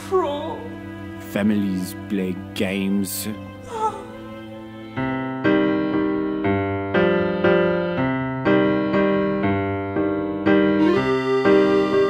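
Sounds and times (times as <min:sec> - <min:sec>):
piano playing sustained chords: 0:00.0 - 0:12.0.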